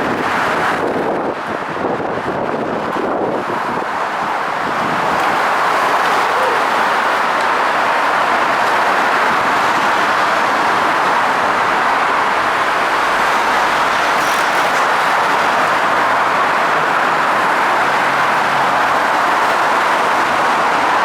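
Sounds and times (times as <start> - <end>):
subway train wheels on track: 0.0 - 21.0.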